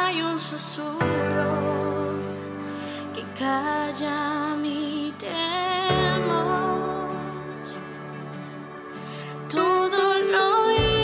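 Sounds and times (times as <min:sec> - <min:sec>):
woman singing: 0:00.0 - 0:08.1, 0:09.4 - 0:11.0.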